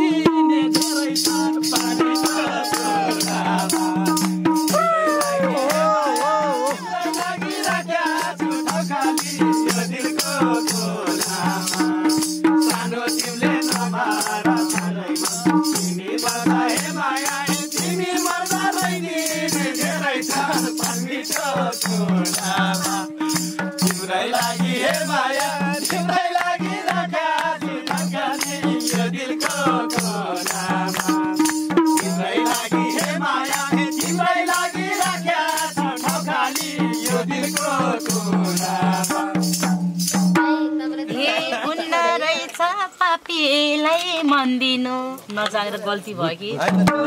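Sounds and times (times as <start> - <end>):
voices singing: 0.0 - 39.8, 40.6 - 47.0
high-pitched percussion: 0.0 - 41.4
hand drum beat: 0.0 - 41.5, 46.6 - 47.0.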